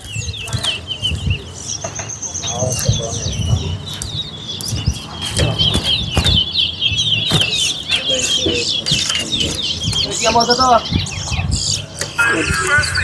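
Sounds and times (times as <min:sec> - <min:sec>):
finches chirping: 0:00.0 - 0:13.0.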